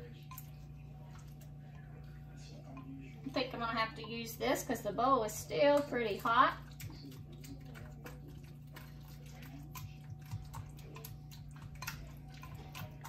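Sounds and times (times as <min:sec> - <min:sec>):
steady low hum: 0:00.0 - 0:13.0
wet squishing of mashed potatoes: 0:00.0 - 0:13.0.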